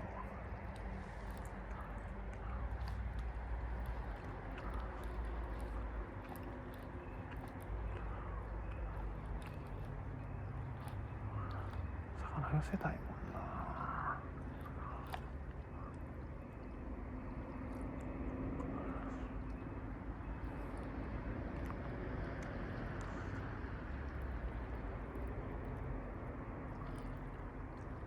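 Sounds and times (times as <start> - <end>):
faint hum: 0.0 - 28.0
low background rumble: 0.0 - 28.0.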